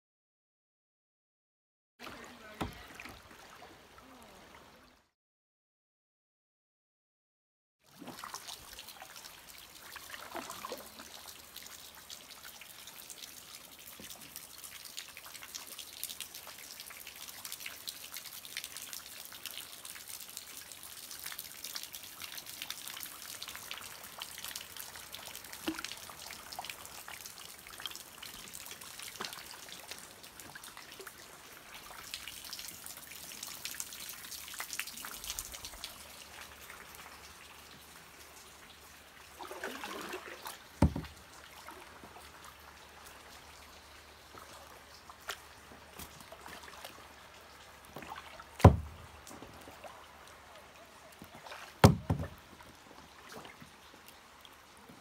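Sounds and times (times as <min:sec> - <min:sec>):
water dripping and trickling: 0:02.0 - 0:05.0, 0:07.8 - 0:55.0.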